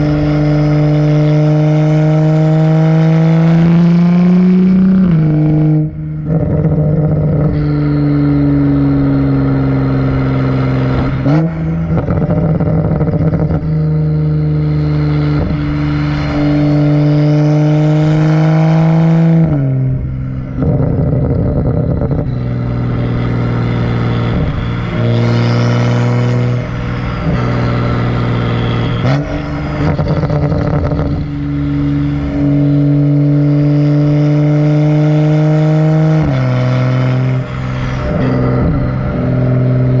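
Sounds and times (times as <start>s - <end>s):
loud car exhaust drone: 0.0s - 40.0s.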